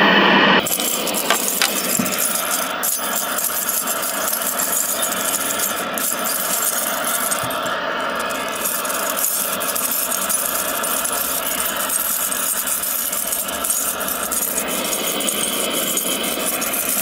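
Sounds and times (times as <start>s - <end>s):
tv tuner motor running with rattle: 0.8s - 17.0s.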